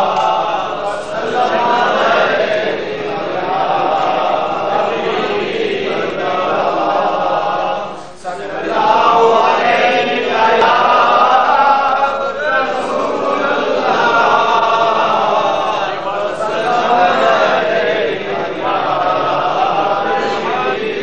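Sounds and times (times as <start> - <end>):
crowd of men chanting: 0.0 - 21.0.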